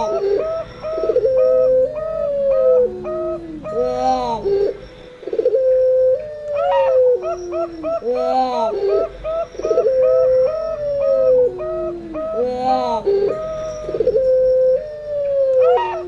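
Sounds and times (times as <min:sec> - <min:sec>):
doves cooing long sliding calls: 0:00.0 - 0:16.0.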